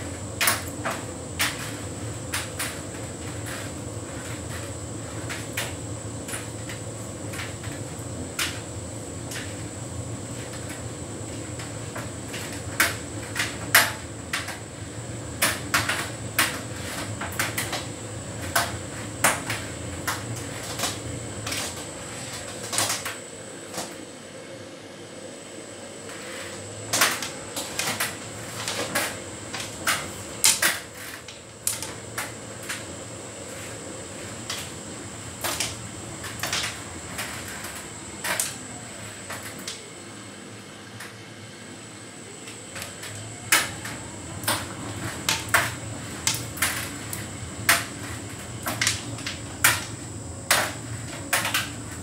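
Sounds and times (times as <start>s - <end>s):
tumble dryer humming: 0.0s - 52.0s.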